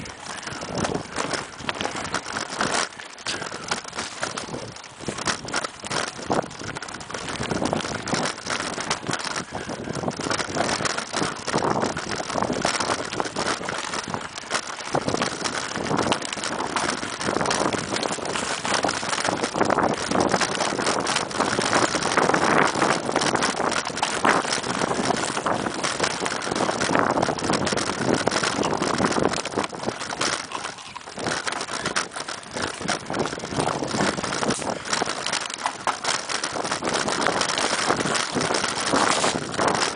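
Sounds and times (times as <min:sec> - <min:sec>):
bike clattering over bumps: 0:00.0 - 0:39.9
bike tyres on dirt and roots: 0:00.0 - 0:39.9
wind noise on microphone: 0:00.0 - 0:39.9.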